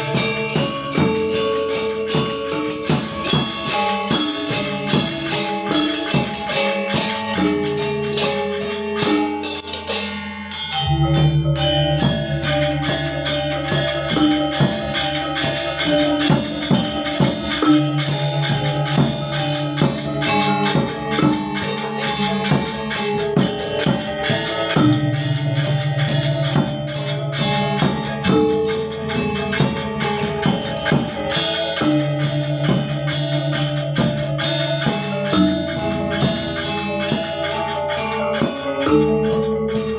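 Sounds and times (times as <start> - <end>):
small cymbals clashing: 0.0 - 39.9.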